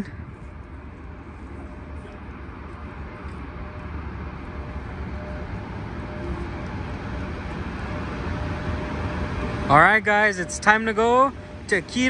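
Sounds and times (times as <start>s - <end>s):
train approaching rumble: 0.0s - 12.0s.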